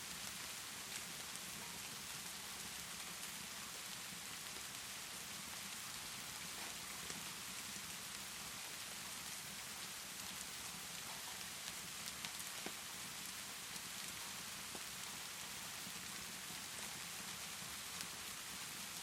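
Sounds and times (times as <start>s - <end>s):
crackling fireplace: 0.0s - 19.0s
steady rainfall: 0.0s - 19.0s.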